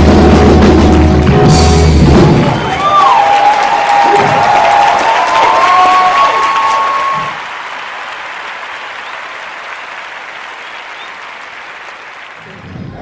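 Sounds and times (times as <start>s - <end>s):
audience applauding: 0.7s - 13.0s.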